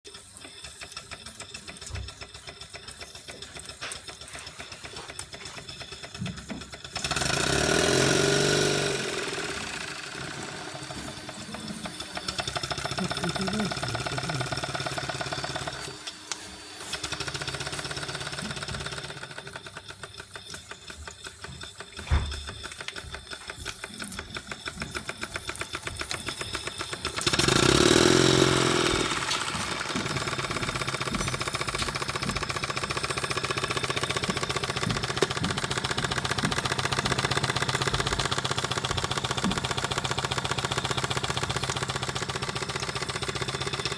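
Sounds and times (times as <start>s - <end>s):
steam engine exhaust chuffs: 0.1s - 43.9s.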